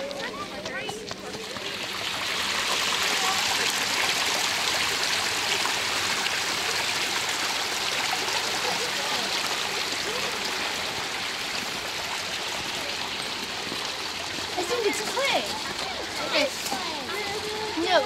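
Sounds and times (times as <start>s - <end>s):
stream water running: 0.0s - 18.0s.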